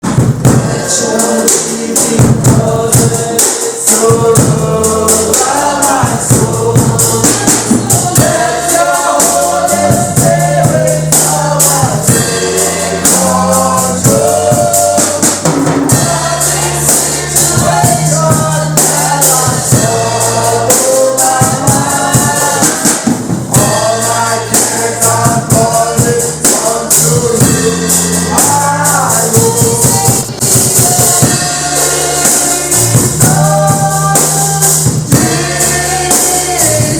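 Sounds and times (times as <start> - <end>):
drums: 0.0 - 36.9
gospel choir singing: 0.0 - 36.9
tambourine: 0.6 - 36.9
bass line: 2.1 - 36.9.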